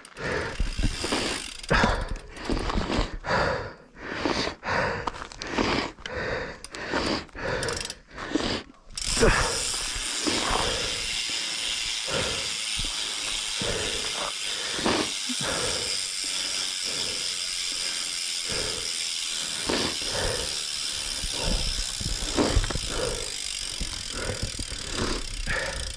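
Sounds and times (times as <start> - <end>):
bike knocking and rattling: 0.0 - 3.8, 6.0 - 8.2, 8.8 - 25.9.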